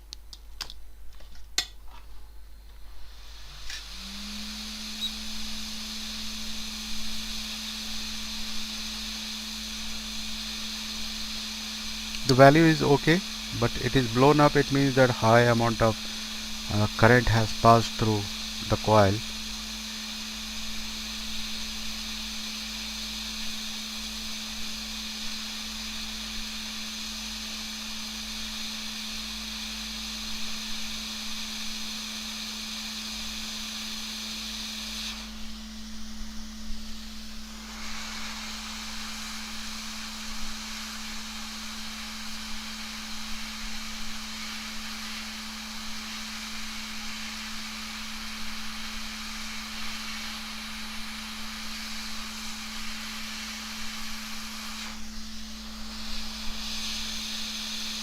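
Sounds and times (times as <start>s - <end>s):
hot air station hissing: 3.0s - 58.0s.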